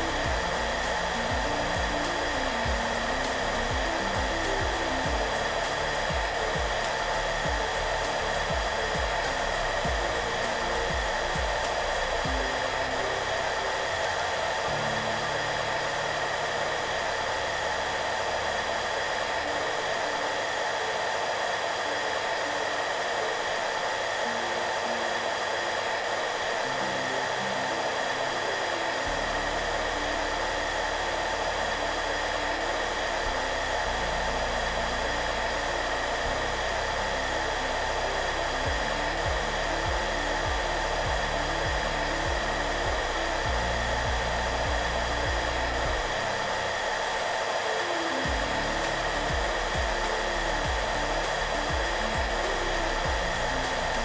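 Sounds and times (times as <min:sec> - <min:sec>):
hair dryer running: 0:00.0 - 0:54.0
soft background music: 0:00.0 - 0:54.0.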